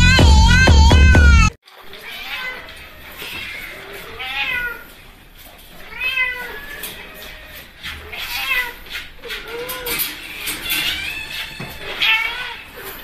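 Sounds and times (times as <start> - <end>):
cat meowing: 0.0 - 5.0, 5.8 - 13.0.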